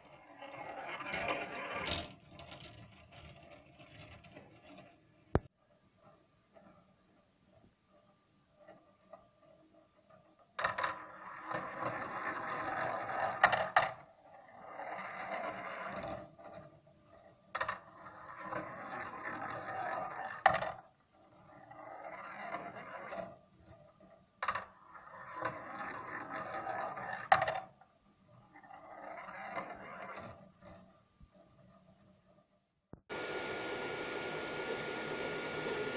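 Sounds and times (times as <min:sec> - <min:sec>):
steel balls rolling on plastic track: 0:00.0 - 0:35.9.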